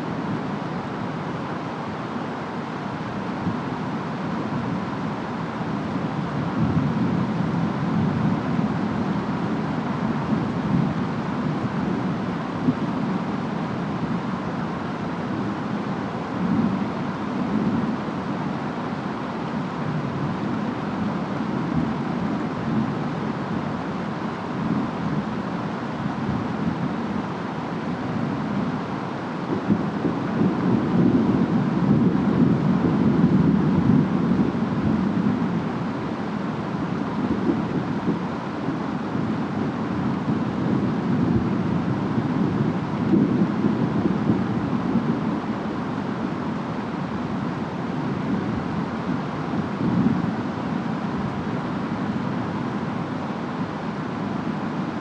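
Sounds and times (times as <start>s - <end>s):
steady rain: 0.0s - 55.0s
wind: 0.0s - 55.0s.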